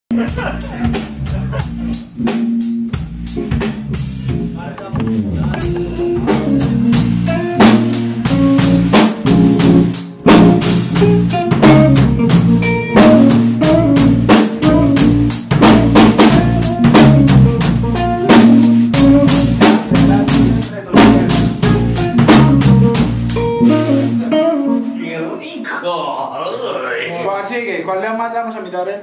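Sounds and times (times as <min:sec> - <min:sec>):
electric bass: 0:00.1 - 0:25.2
drum kit: 0:00.1 - 0:25.5
electric guitar: 0:00.2 - 0:25.4.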